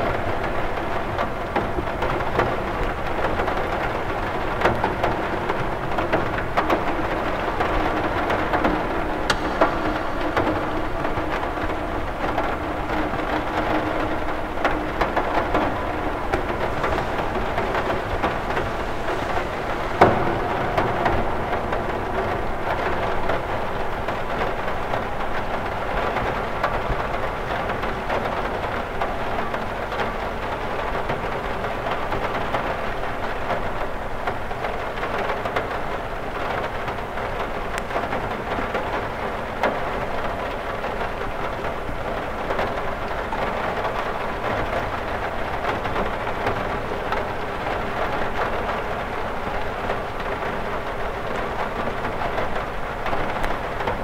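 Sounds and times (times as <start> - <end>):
rain on window glass: 0.0 - 54.0.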